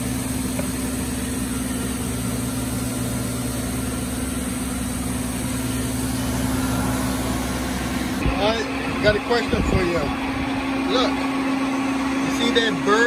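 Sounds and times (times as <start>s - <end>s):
shop machinery humming: 0.0s - 13.0s.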